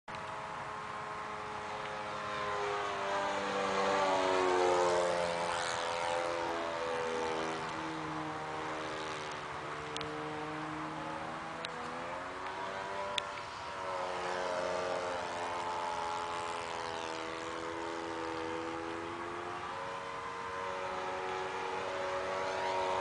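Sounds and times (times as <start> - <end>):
model airplane engine flying past: 0.1 - 23.0.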